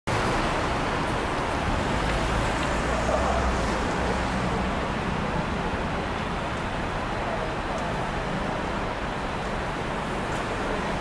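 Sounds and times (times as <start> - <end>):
city street traffic: 0.1 - 11.0.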